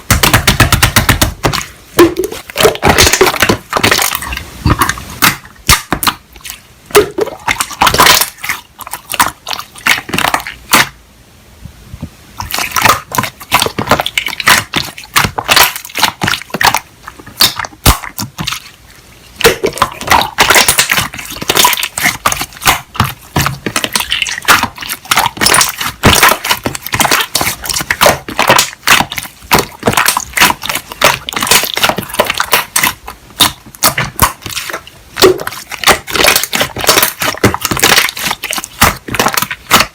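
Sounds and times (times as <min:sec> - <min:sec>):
slime crackling and popping: 0:00.0 - 0:10.9, 0:12.4 - 0:18.7, 0:19.4 - 0:39.9.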